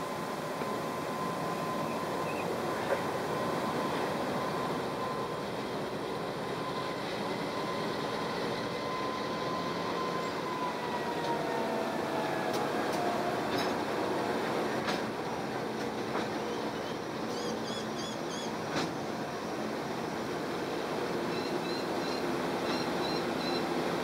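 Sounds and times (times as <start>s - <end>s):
diesel locomotive engines running: 0.0s - 24.0s.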